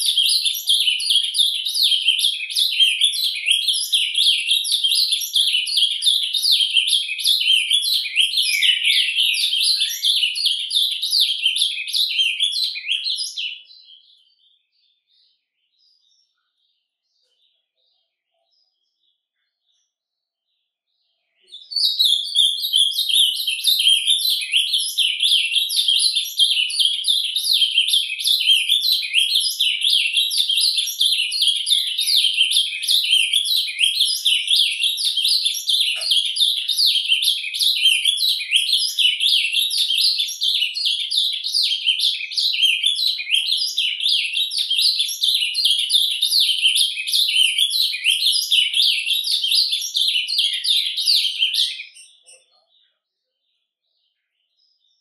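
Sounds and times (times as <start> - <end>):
bird whisper song twittering: 0.0 - 20.0, 21.1 - 53.4.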